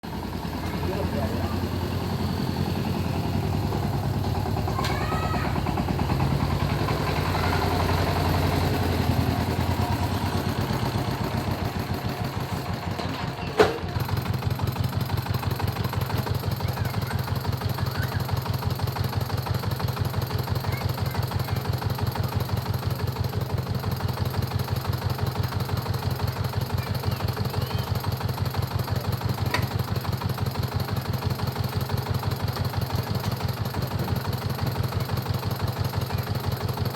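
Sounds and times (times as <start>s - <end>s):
diesel engine chugging: 0.0s - 36.9s.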